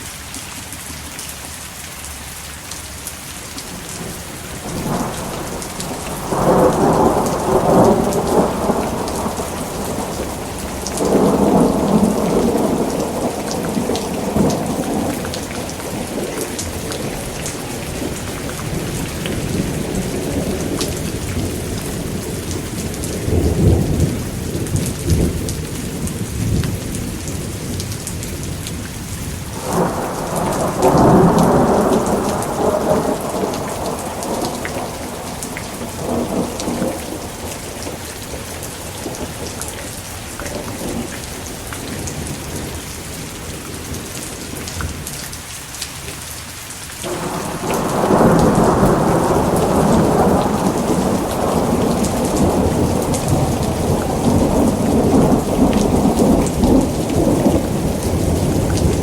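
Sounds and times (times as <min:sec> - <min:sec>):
heavy rain pattering: 0:00.0 - 0:59.0
rolling thunder rumbling: 0:03.6 - 0:45.1, 0:47.0 - 0:59.0.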